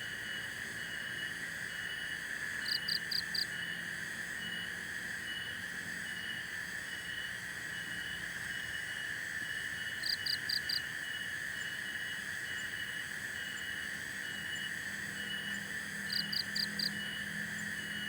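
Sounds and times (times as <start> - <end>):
insects buzzing drone: 0.0 - 18.0.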